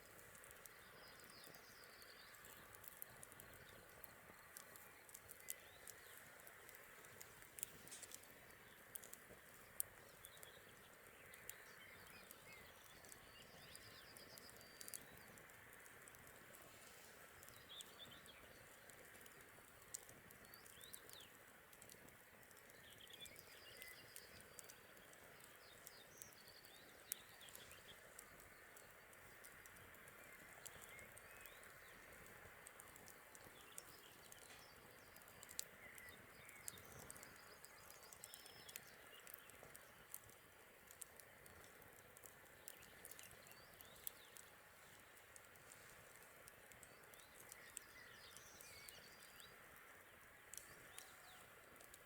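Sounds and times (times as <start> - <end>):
campfire crackling and popping: 0.0 - 52.0
birds chirping: 0.2 - 51.9.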